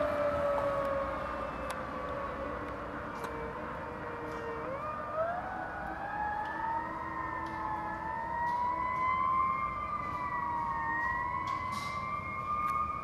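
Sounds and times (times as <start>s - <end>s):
fire truck siren wailing: 0.0s - 13.0s.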